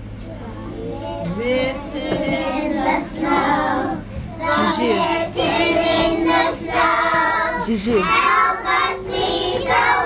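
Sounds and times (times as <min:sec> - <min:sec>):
young children singing: 0:01.0 - 0:10.0.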